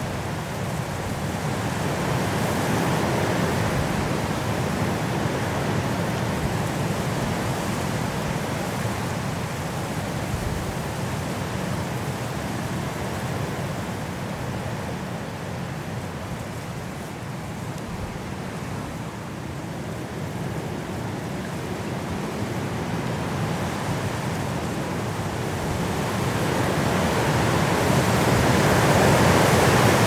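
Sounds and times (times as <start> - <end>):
wind blowing through trees: 0.0 - 30.0.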